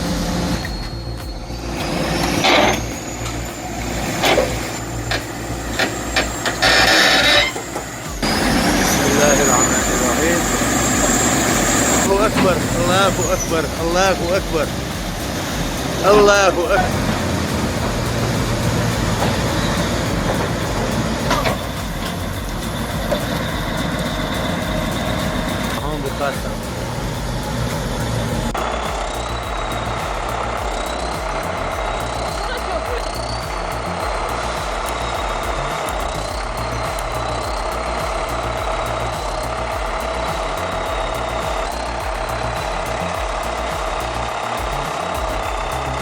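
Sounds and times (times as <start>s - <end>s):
heavy machinery engine humming: 0.0s - 46.0s
hissing bursts: 0.0s - 46.0s.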